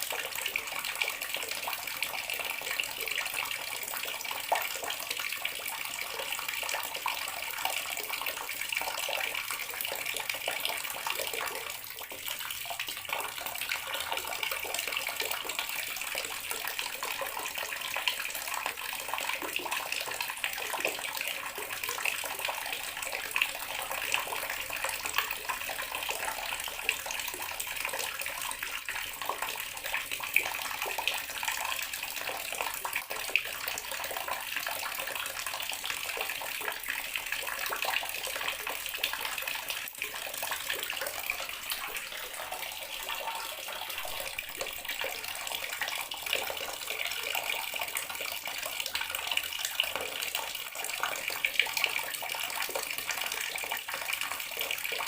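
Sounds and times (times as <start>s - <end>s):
water tap running and splashing: 0.0s - 55.0s.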